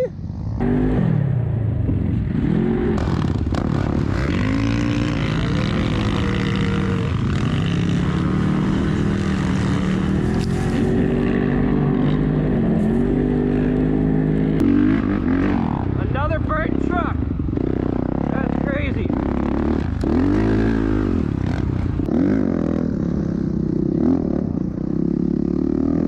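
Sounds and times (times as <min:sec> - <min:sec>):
vehicle engine revving: 0:00.6 - 0:26.0.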